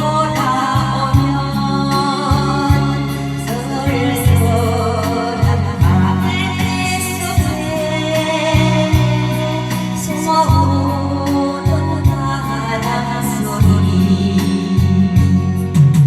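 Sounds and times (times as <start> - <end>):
backing music with bass and beat: 0.0 - 16.0
person singing: 0.0 - 16.0.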